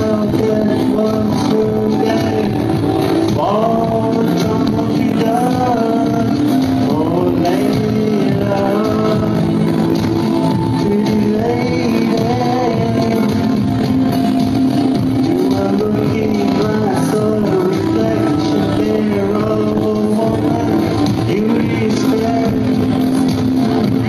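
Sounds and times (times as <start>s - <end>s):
man singing: 0.0s - 24.0s.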